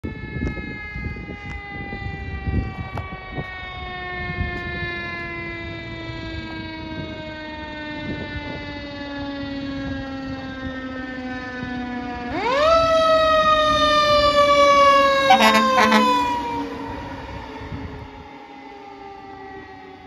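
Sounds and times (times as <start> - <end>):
fire engine siren wailing: 0.0 - 20.0.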